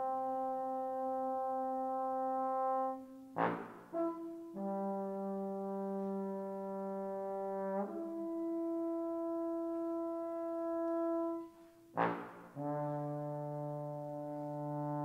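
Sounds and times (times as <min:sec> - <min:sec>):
bass trombone playing: 0:00.0 - 0:15.0.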